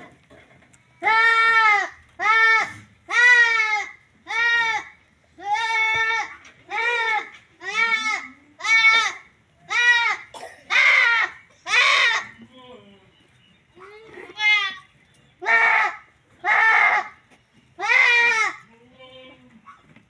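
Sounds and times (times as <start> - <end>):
goat kid bleating: 1.0 - 12.4, 13.8 - 17.2, 17.8 - 19.8.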